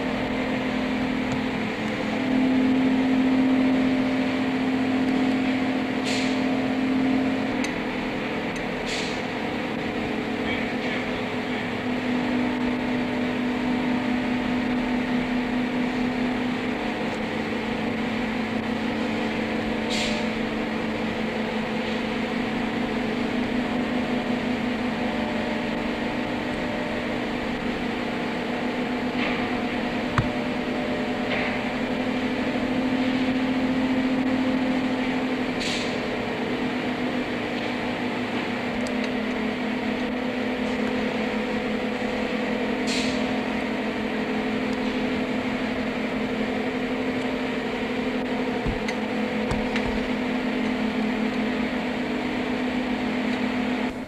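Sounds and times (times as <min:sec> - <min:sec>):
packing machinery hum: 0:00.0 - 0:54.0.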